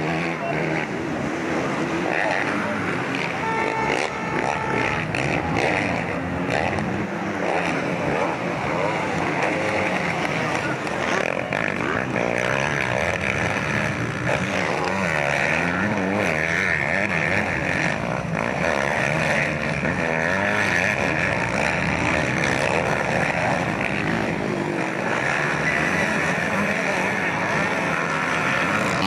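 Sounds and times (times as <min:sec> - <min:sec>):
motocross bike engines revving: 0:00.0 - 0:29.0.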